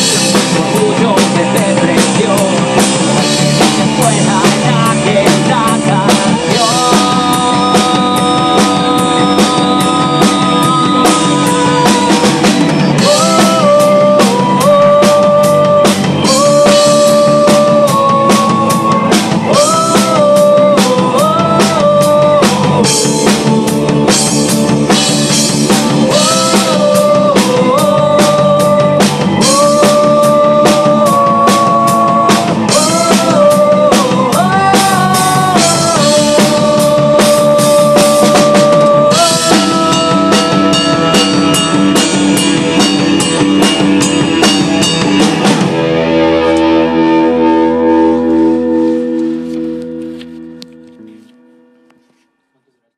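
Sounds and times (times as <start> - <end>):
drum kit beating: 0.0 - 51.2
instrumental rock melody: 0.0 - 52.5.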